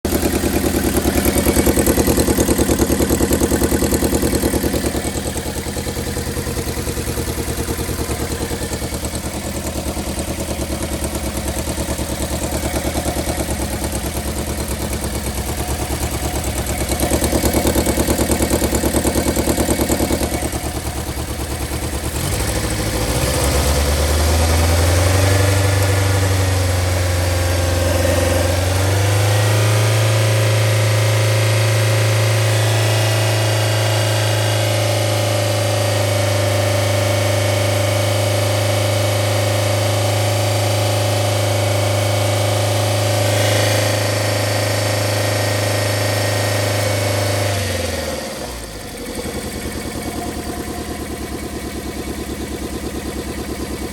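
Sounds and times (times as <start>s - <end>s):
car engine misfiring: 0.0s - 53.9s.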